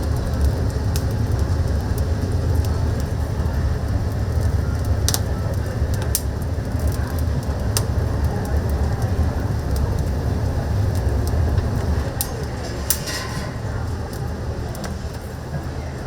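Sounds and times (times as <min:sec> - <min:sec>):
fire low rumble: 0:00.0 - 0:16.0
firewood crackling: 0:00.0 - 0:16.0.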